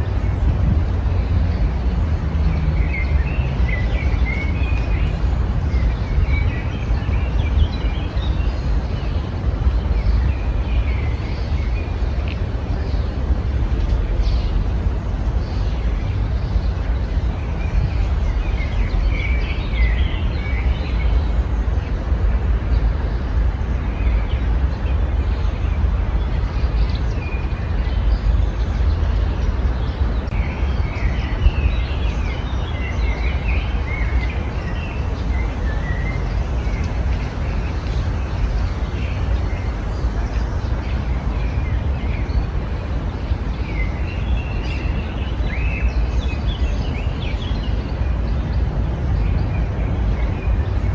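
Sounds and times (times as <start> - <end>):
small birds chirping and trilling: 0.0 - 50.9
steady low rumble: 0.0 - 50.9.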